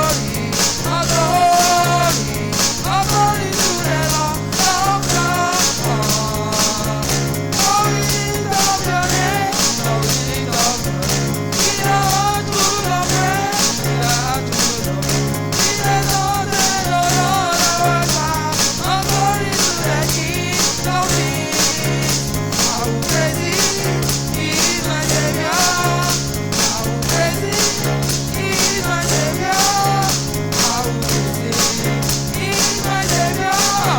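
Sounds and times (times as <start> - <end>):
bass line: 0.0 - 33.9
church praise music: 0.0 - 33.9
drums with cymbal hits: 0.0 - 33.9
person singing: 0.0 - 33.9.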